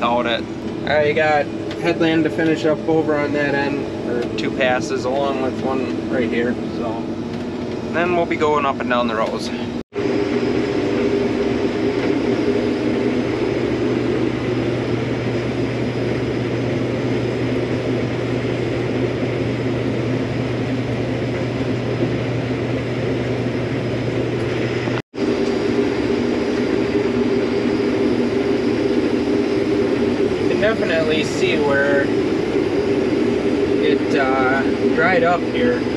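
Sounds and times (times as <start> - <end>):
combine harvester running: 0.0 - 35.9.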